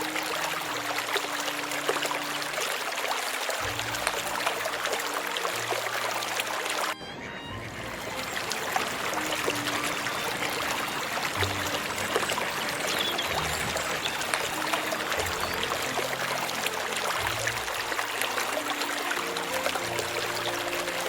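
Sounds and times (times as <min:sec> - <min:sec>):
running water: 0:00.0 - 0:21.0.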